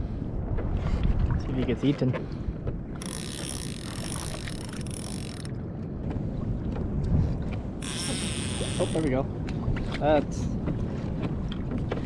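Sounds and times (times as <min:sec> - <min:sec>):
water around kayak: 0:00.0 - 0:12.0
wind buffeting microphone: 0:00.0 - 0:12.0.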